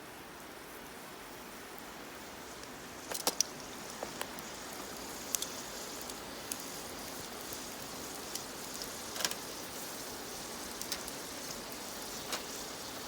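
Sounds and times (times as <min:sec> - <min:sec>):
bonfire hissing: 0:00.7 - 0:13.0
fire crackles and pops: 0:01.5 - 0:13.0.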